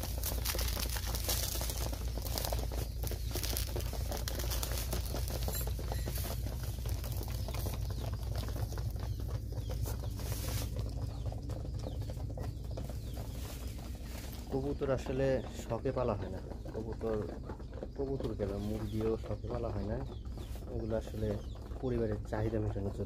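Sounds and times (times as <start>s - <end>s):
low steady rumble: 0.0s - 23.0s
pigeons pecking grain: 0.0s - 23.0s.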